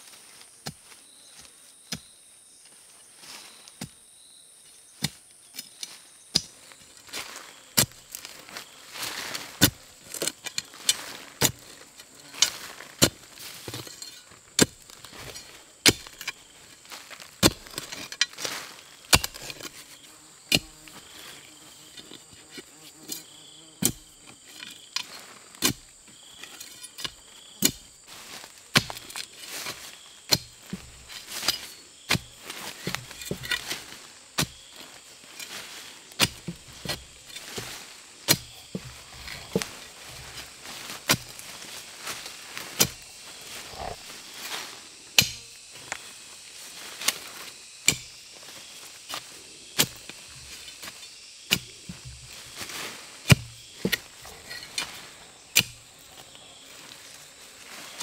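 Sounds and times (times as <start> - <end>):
high buzz of insects: 0.0 - 58.0
digging tool striking dry earth: 5.0 - 19.9, 20.5 - 20.8, 23.1 - 46.0, 46.8 - 48.3, 49.0 - 56.4.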